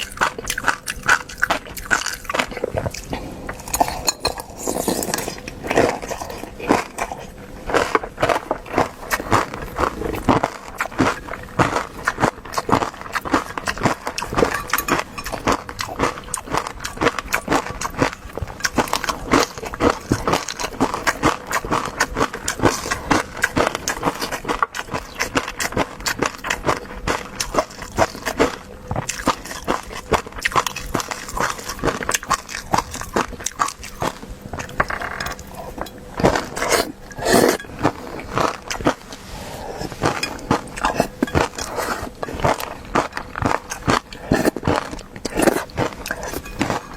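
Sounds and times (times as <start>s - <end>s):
mouth chewing food: 0.0s - 46.9s.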